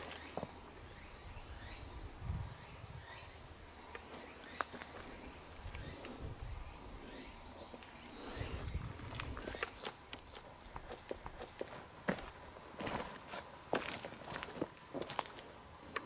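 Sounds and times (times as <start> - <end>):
insect trilling: 0.0 - 12.9.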